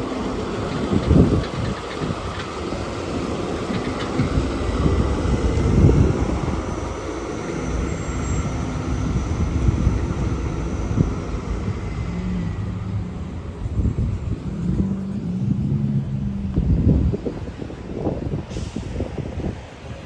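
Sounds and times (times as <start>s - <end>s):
road traffic rumbling: 0.0s - 20.0s.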